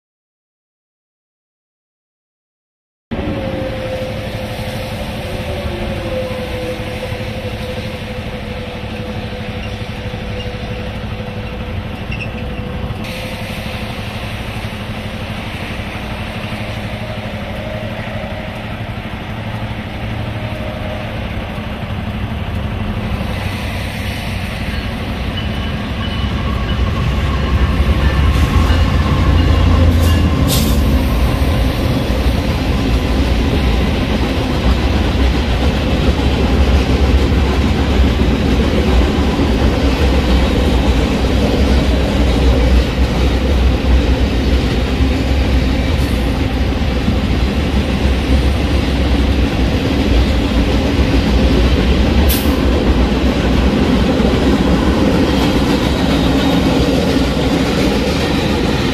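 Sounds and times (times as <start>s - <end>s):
diesel locomotives rumbling: 3.1s - 58.9s
rolling train cars: 3.1s - 58.9s.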